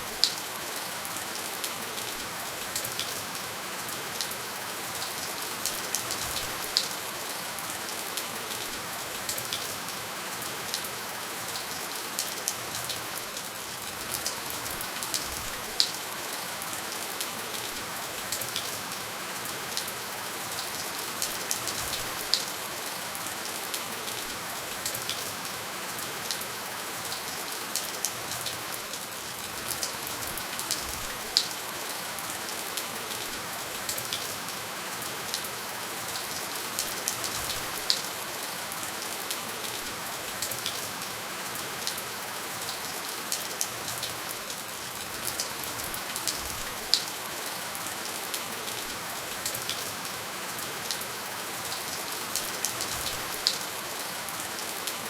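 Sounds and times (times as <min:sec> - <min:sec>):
gentle rain hissing: 0:00.0 - 0:55.0.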